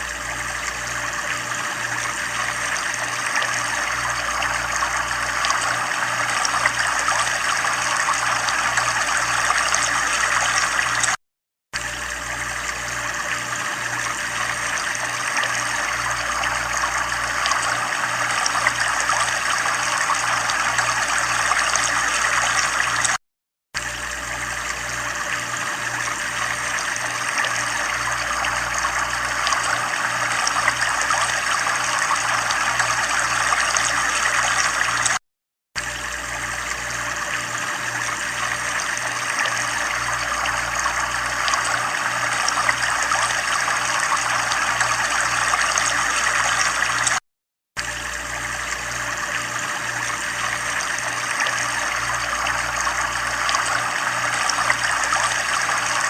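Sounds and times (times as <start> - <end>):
water trickling: 0.0 - 11.2, 11.8 - 23.2, 23.8 - 35.2, 35.8 - 47.2, 47.8 - 56.0.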